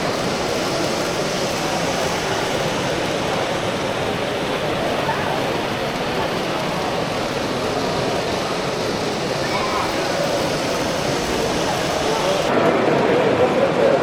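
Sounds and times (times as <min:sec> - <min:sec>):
murmur of many people talking: 0:00.0 - 0:14.0.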